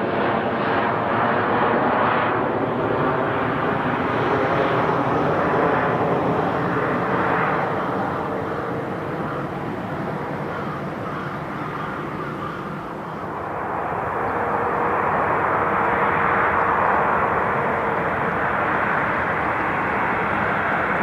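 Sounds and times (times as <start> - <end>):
jet airliner engines running: 0.0 - 21.0.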